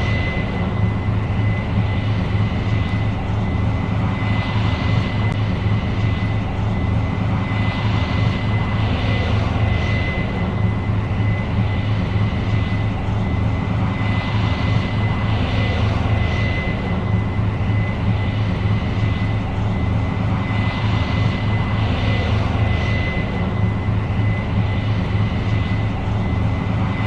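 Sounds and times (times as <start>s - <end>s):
combine diesel drone: 0.0s - 27.0s
steady high whine: 0.0s - 27.0s.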